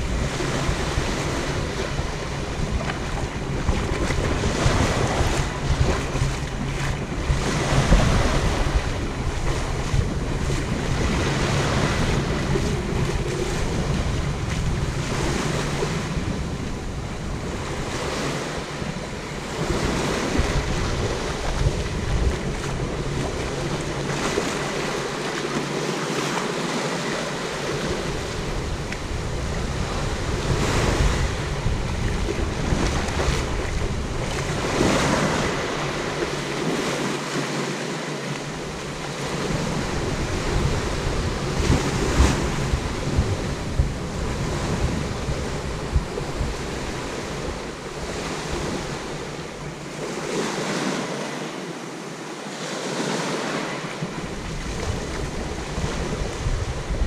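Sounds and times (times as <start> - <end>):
waves breaking on beach: 0.0 - 57.0
wind rumbling on microphone: 0.0 - 57.0.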